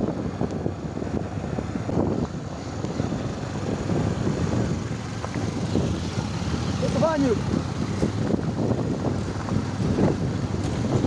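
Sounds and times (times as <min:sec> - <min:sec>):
motorcycle engines at low speed: 0:00.0 - 0:11.0
wind buffeting microphone: 0:00.0 - 0:11.0.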